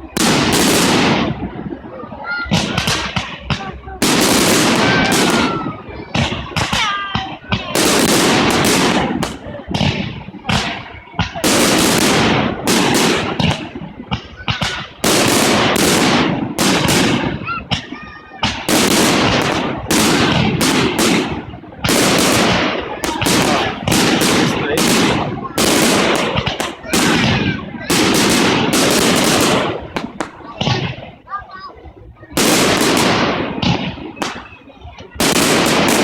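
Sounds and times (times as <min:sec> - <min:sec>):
crowd voices: 0:00.0 - 0:36.0
fireworks bangs and crackling: 0:00.0 - 0:36.0.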